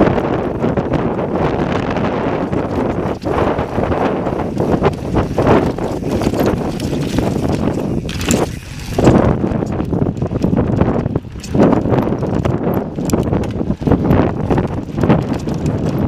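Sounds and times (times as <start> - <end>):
bike rattling over bumps: 0.0 - 16.0
bike tyres rumbling on rock: 0.0 - 16.0
wind buffeting microphone: 0.0 - 16.0.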